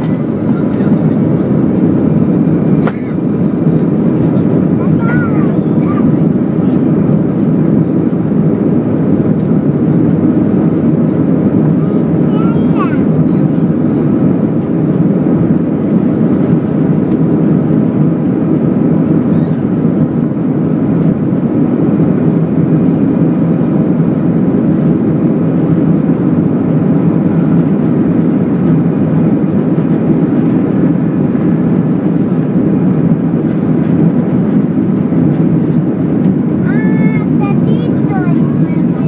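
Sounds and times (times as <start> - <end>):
jet engines rushing: 0.0 - 39.0
runway rumble: 0.0 - 39.0.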